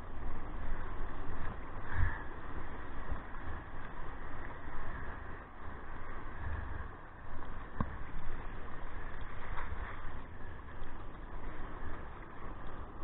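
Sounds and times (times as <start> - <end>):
surf breaking and water washing: 0.0 - 13.0.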